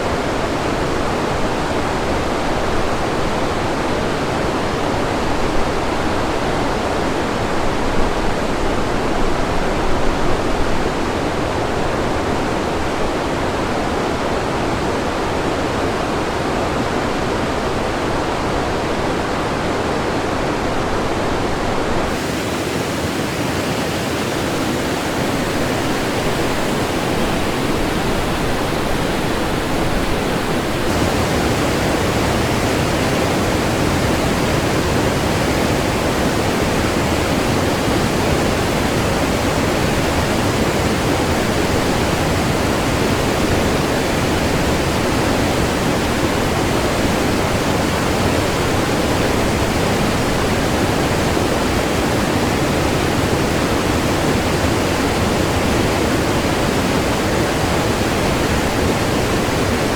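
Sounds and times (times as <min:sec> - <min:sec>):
river white water rushing: 0:11.1 - 0:59.9.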